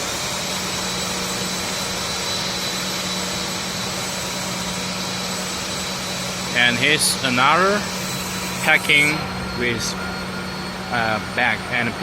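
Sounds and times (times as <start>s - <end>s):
constant low hum: 0.0s - 12.0s
machine rushing hiss: 0.0s - 12.0s
thin high whine: 0.0s - 12.0s.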